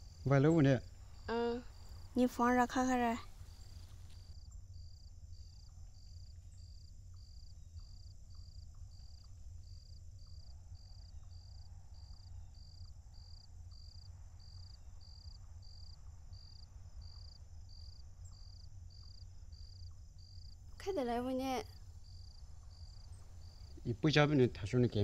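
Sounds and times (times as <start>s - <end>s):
cricket chirping: 0.0s - 25.0s.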